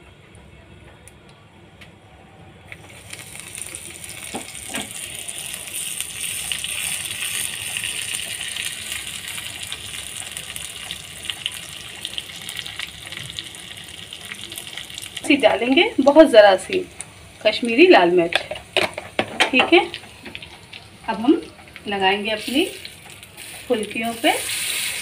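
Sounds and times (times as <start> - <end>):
seeds sizzling in hot oil: 2.8 - 18.1, 19.8 - 25.0.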